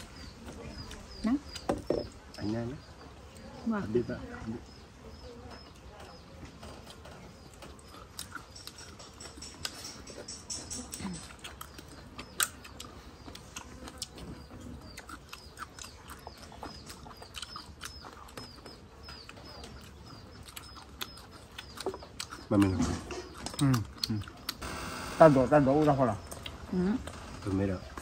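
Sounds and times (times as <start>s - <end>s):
small bird chirping: 0.0s - 28.0s.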